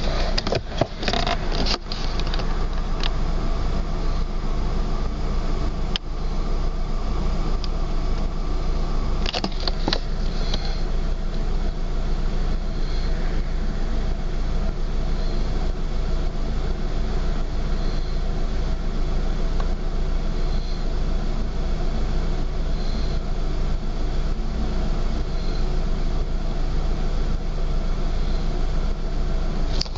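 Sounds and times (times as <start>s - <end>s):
car engine idling roughly: 0.0s - 29.9s.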